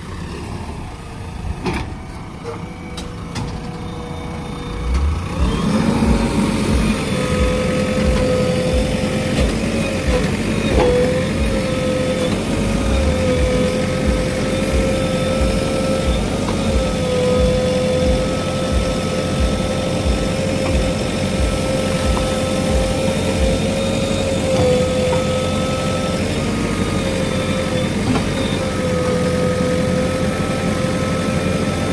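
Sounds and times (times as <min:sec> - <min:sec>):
diesel engine running: 0:00.0 - 0:31.9
steady whine: 0:00.0 - 0:31.9.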